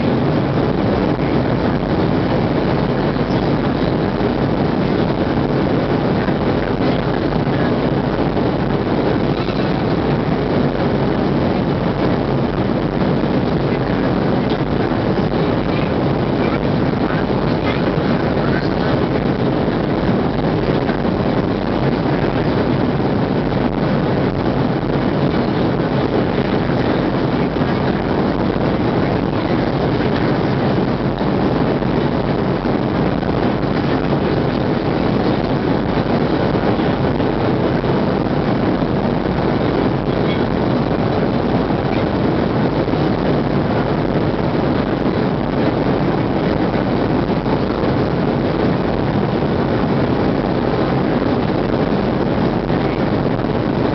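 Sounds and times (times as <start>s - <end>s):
airplane cabin jet engine noise: 0.0s - 53.9s.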